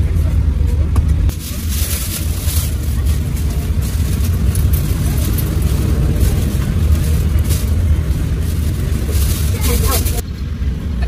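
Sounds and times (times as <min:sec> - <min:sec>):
low rumble: 0:00.0 - 0:11.0
plastic bags crinkling: 0:01.3 - 0:10.2.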